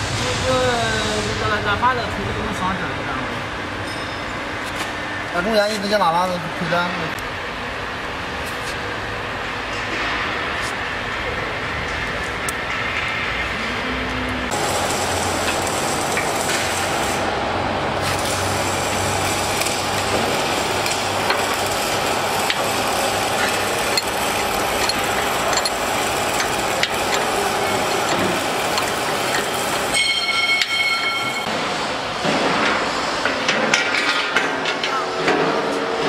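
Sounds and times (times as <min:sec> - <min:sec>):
factory hall noise: 0:00.0 - 0:36.0.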